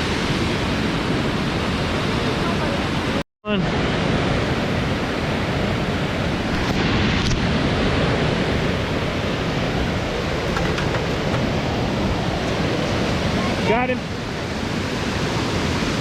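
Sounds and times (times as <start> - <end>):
fast river current: 0.0 - 16.0
heavy rain: 1.8 - 16.0.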